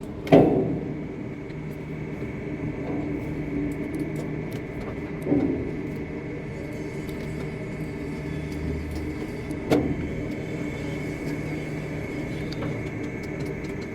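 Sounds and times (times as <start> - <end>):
crane machinery hum: 0.0 - 13.9
high machinery whine: 0.0 - 13.9.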